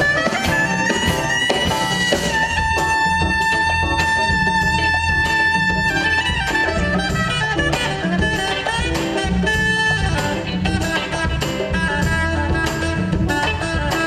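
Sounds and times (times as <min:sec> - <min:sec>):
drums: 0:00.0 - 0:14.0
electric bass: 0:00.0 - 0:14.0
fast saxophone runs: 0:00.0 - 0:14.0
jazz fusion band playing: 0:00.0 - 0:14.0.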